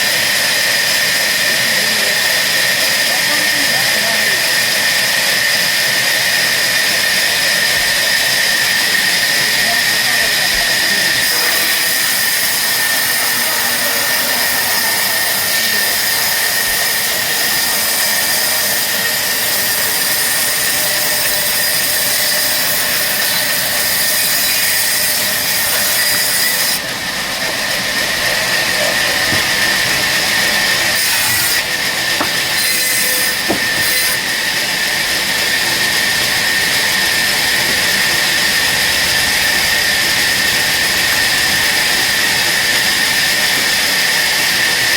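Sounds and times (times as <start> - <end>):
power woodworking tool whining: 0.0 - 44.9.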